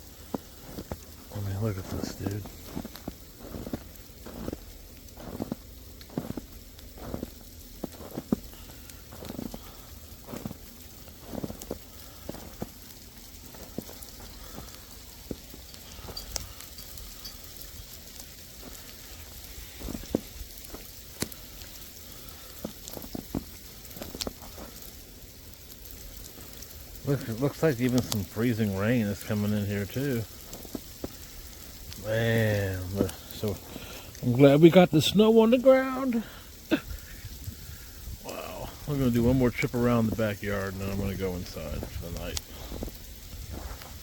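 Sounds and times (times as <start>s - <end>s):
falling sleet patter: 0.0s - 44.0s
footsteps crunching through icy snow: 0.0s - 44.0s.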